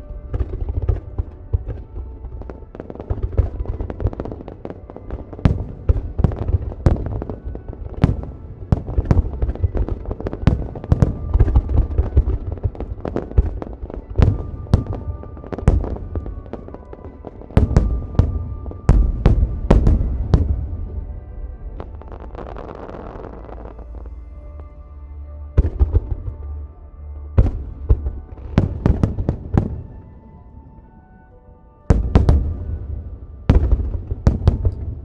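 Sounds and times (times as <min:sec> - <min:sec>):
fireworks bursting with bangs and crackles: 0:00.0 - 0:24.7, 0:25.6 - 0:26.5, 0:27.4 - 0:30.4, 0:31.9 - 0:35.0
music with held tones: 0:00.0 - 0:35.0.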